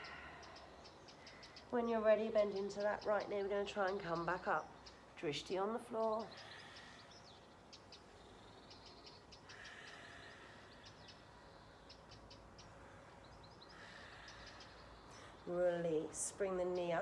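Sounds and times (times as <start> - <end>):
distant birds chirping: 0.0 - 17.0.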